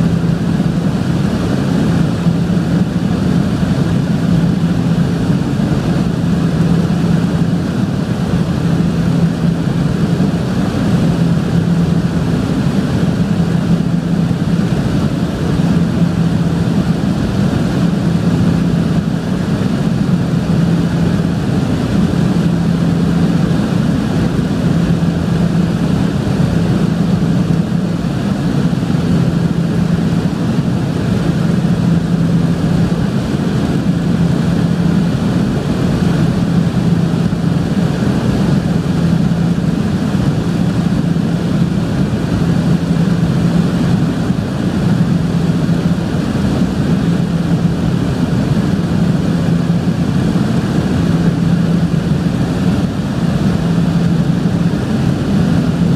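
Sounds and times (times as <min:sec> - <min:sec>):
turboprop engines droning: 0:00.0 - 0:55.9.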